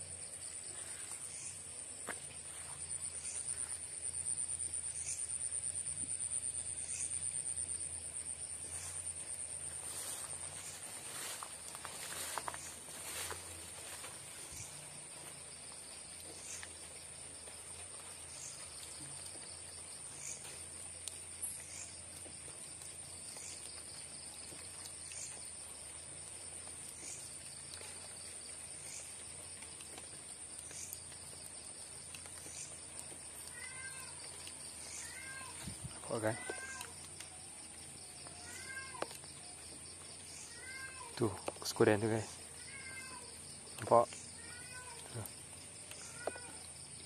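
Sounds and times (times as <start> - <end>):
insect chirp: 0.0 - 47.0.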